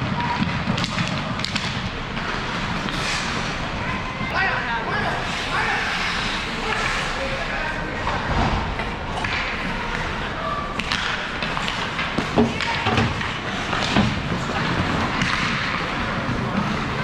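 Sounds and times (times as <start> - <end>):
hockey sticks and puck clacking: 0.0 - 3.6, 5.3 - 7.4, 8.8 - 17.0
voices: 0.0 - 17.0.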